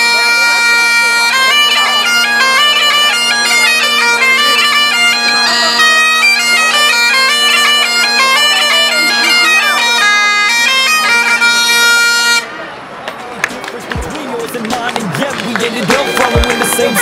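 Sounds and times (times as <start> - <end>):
bagpipe playing: 0.0 - 12.6, 15.6 - 17.0.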